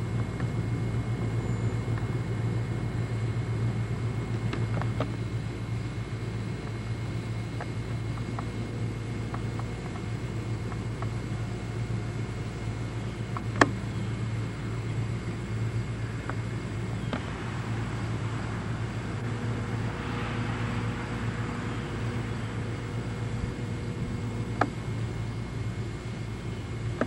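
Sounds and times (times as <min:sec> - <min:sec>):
low hum and rumble: 0:00.0 - 0:27.0.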